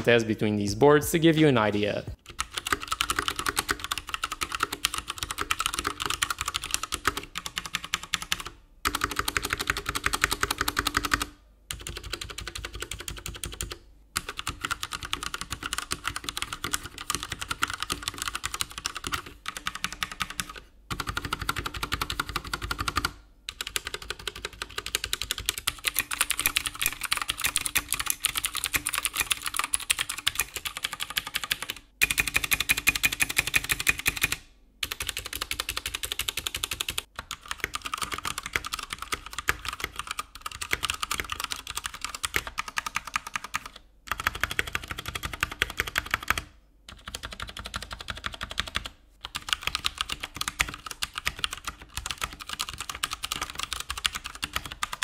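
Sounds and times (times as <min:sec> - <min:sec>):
fast typing on mechanical keyboard: 0:02.2 - 0:55.0.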